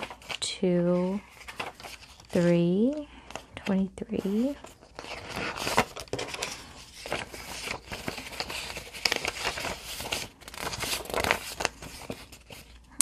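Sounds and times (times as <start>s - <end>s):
paper bills rustling and snapping: 1.0s - 3.5s, 4.3s - 13.0s.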